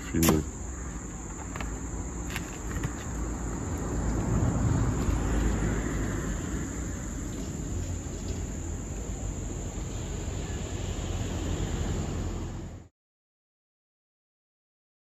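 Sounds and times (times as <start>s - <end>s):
insects chirring: 0.0s - 12.9s.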